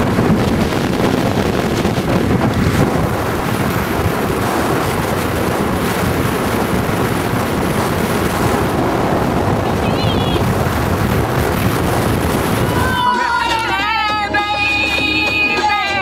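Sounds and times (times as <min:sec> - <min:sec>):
road noise: 0:00.0 - 0:16.0
wind rushing through car window: 0:00.0 - 0:16.0.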